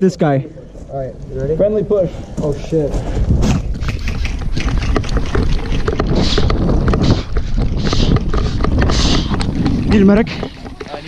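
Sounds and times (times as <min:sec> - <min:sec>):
wind rumbling on microphone: 0:00.6 - 0:11.0.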